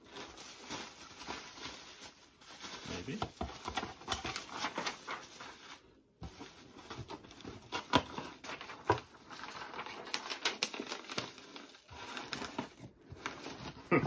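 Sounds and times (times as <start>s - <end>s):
cardboard rustling: 0.0s - 14.0s
plastic bags crinkling: 0.0s - 14.0s.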